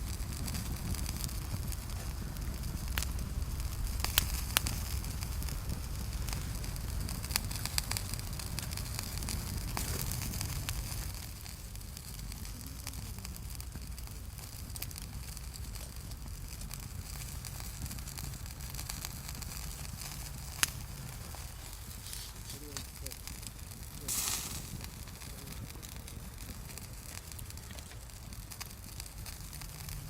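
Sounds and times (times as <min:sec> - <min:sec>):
fire crackling: 0:00.0 - 0:30.0
sharp pops from fire: 0:00.0 - 0:30.0
steady low rumble: 0:00.0 - 0:30.0.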